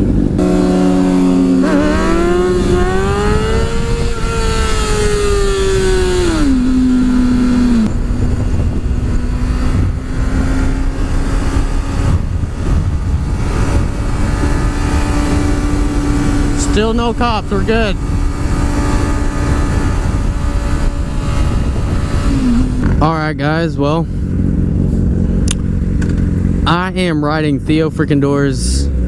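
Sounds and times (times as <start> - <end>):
motorcycle engine: 0.0 - 29.0
wind rush on microphone: 0.0 - 29.0.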